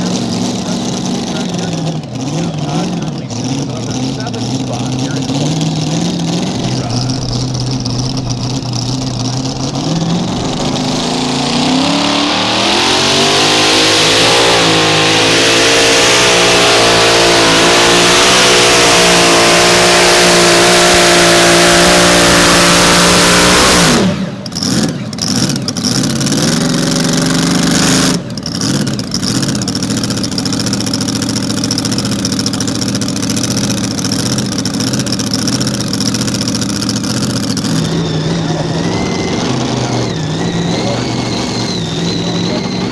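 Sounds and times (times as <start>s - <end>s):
tractor engine revving: 0.0s - 42.9s.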